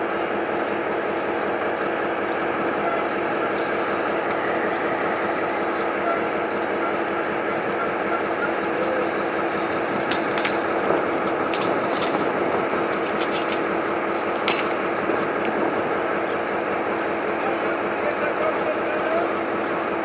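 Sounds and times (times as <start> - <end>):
locomotive engine hum: 0.0 - 20.0.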